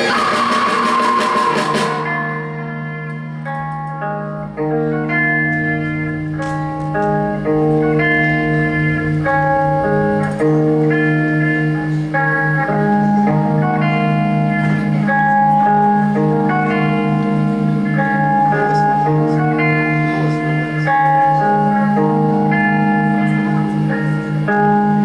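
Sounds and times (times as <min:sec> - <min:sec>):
instrumental rock guitar music: 0:00.0 - 0:25.0.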